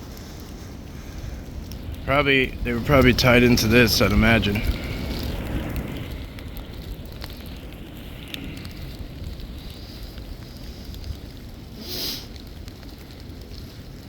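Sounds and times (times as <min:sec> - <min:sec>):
faint ticks: 0:00.0 - 0:02.0, 0:03.0 - 0:14.0
light crackling: 0:00.0 - 0:14.0
wind buffeting microphone: 0:00.0 - 0:14.0.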